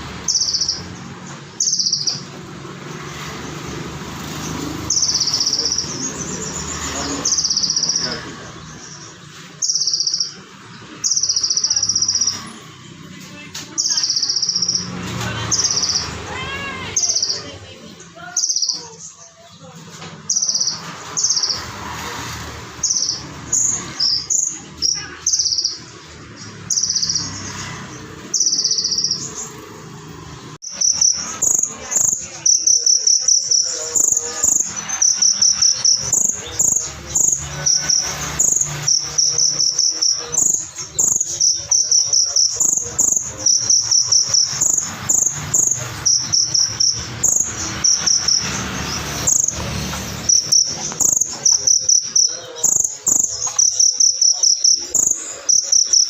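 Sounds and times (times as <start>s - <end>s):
bird singing trilled phrases: 0.0s - 30.0s, 30.6s - 56.0s.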